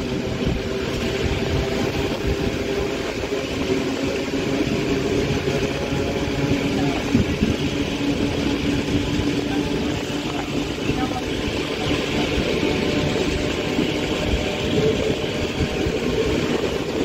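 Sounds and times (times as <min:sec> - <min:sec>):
train wheels rumbling on track: 0:00.0 - 0:17.0
wind on microphone: 0:00.0 - 0:17.0.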